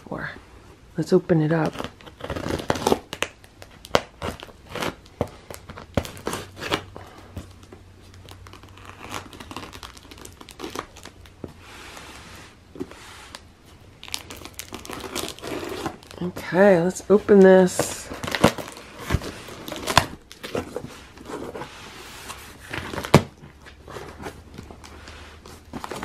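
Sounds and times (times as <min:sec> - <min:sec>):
packing tape tearing: 0:01.6 - 0:11.4, 0:14.0 - 0:16.4, 0:17.3 - 0:26.0.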